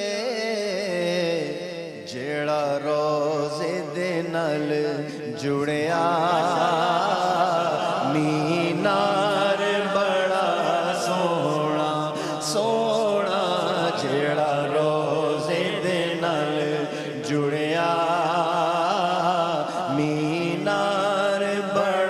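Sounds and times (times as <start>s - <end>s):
man singing: 0.0s - 22.0s.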